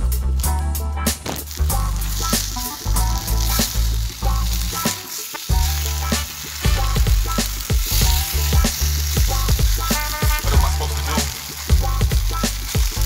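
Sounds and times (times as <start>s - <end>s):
music: 0.0s - 13.0s
flatbreads sizzling in a pan: 0.1s - 13.0s.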